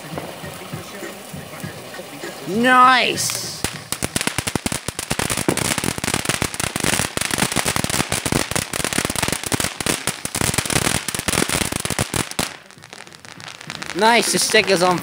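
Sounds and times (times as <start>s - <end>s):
ground firework crackling: 0.0s - 15.0s.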